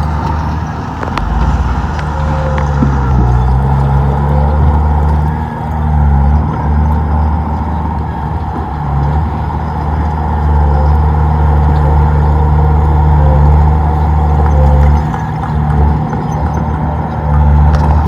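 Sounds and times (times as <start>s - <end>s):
bulldozer diesel engine under load: 0.0s - 18.0s.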